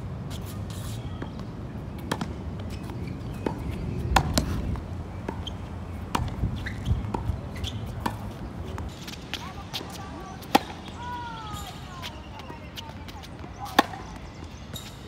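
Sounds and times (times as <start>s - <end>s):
tennis balls struck and bouncing: 0.2s - 15.0s.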